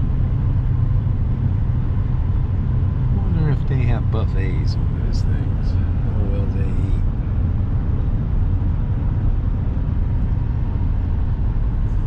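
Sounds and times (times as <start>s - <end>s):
truck road and engine rumble: 0.0s - 12.0s.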